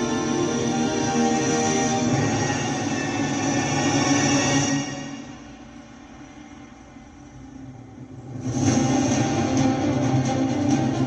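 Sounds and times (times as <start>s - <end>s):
background music sustained tones: 0.0s - 11.0s.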